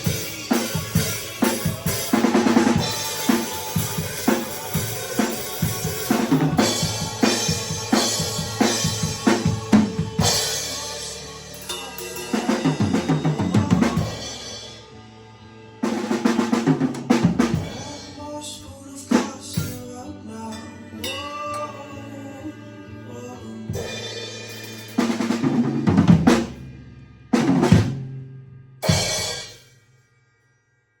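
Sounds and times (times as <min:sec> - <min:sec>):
drum kit playing: 0:00.0 - 0:15.0, 0:15.8 - 0:20.0, 0:23.7 - 0:29.7
recorded song: 0:00.0 - 0:26.7.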